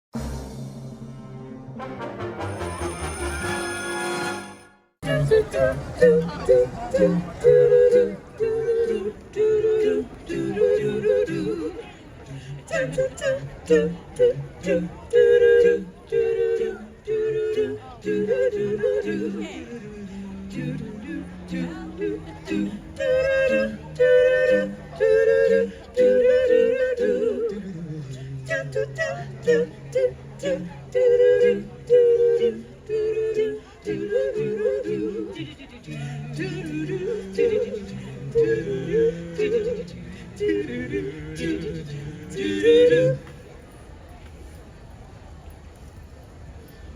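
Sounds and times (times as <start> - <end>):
vocal group singing in harmony: 1.8 - 43.6.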